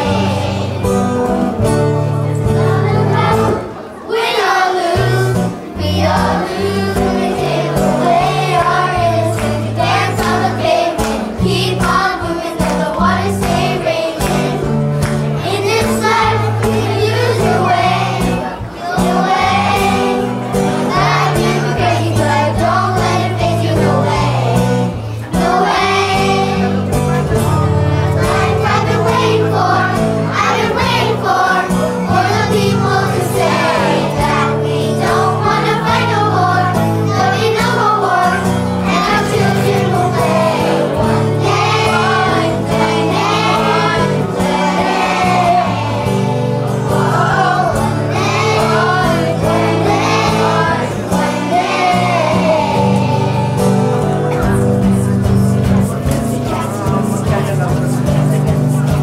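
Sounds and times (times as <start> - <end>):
children's choir singing: 0.0 - 57.6
instrumental accompaniment: 0.0 - 59.0.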